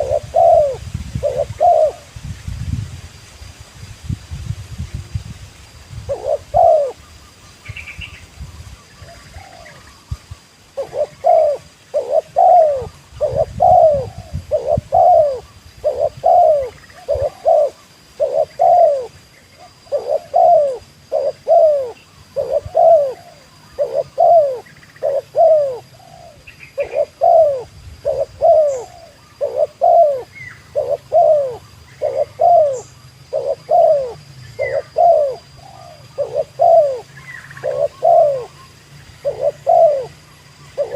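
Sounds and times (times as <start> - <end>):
dove cooing: 0.0 - 2.1, 6.1 - 7.8, 9.0 - 10.0, 10.7 - 40.9
small birds chirping: 0.0 - 2.7, 6.0 - 40.9.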